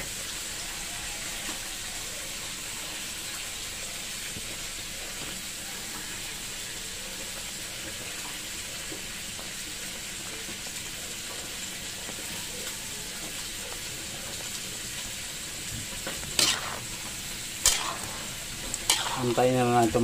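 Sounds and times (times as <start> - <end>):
sauce sizzling in a pan: 0.0 - 20.0.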